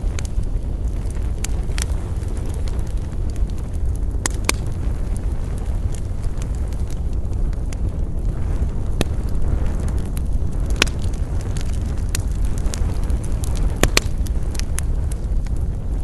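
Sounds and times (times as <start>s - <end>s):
steady low rumble: 0.0s - 16.0s
wood fire crackling and popping: 0.0s - 16.0s.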